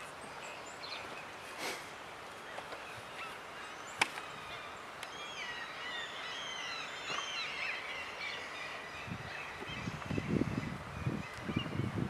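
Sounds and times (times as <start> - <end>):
songbird chirping and warbling: 0.0 - 12.0.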